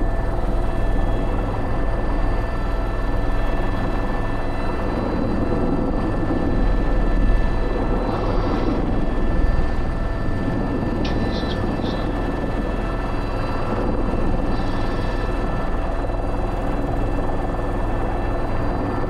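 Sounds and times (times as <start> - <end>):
helicopter rotor beat: 0.0 - 19.0
turbine engine whine: 0.0 - 19.0.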